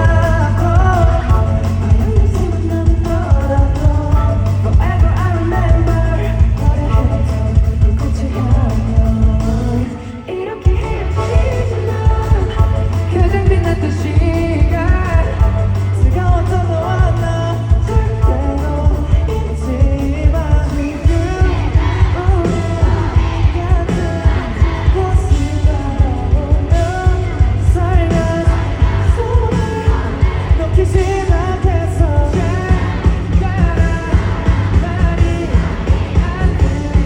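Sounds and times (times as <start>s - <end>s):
driving drum beat: 0.0s - 37.0s
live pop-rock band: 0.0s - 37.0s
singer's lead vocal: 0.0s - 37.0s.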